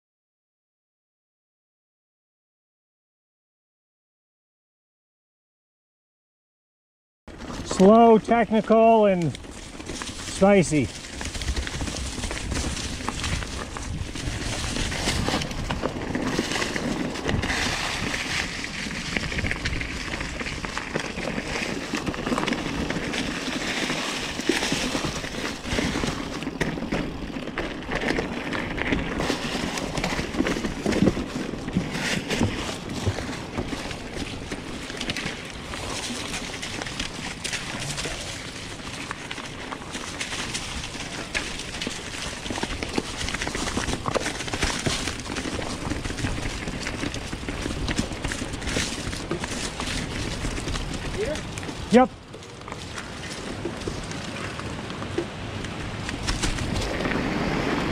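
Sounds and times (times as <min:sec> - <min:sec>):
bike knocking and rattling: 0:07.3 - 0:57.9
bike tyres rolling over leaves and dirt: 0:07.3 - 0:57.9.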